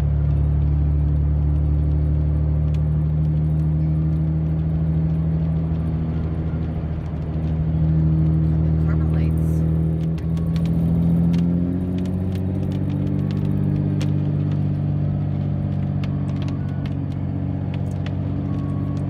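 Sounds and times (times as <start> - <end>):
engine and road drone: 0.0 - 19.0.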